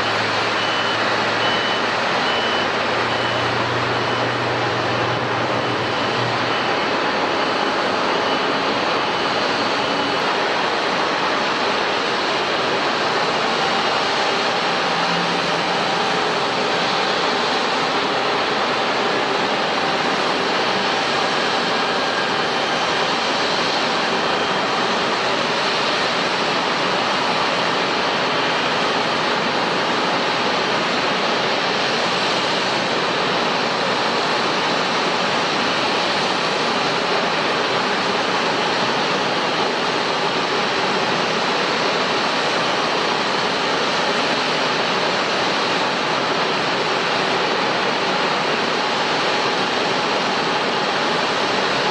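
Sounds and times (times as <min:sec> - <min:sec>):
jet engine roar: 0:00.0 - 0:51.9.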